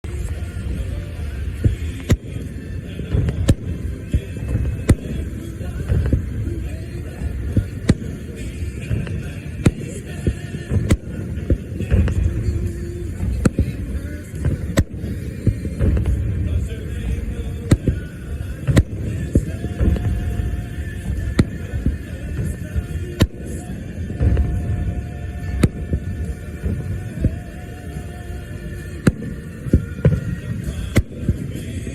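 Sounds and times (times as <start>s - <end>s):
low rumble of booms: 0.1s - 31.6s
fireworks sharp bangs: 0.1s - 31.9s.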